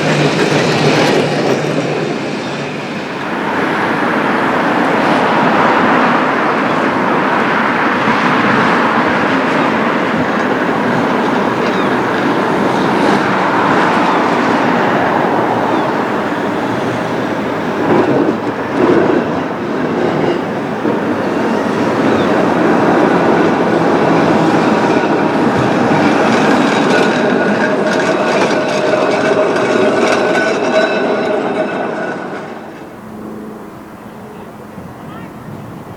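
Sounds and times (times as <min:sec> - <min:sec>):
steady whining tones: 0:00.0 - 0:35.9
tram wheels rumbling on track: 0:00.0 - 0:35.9.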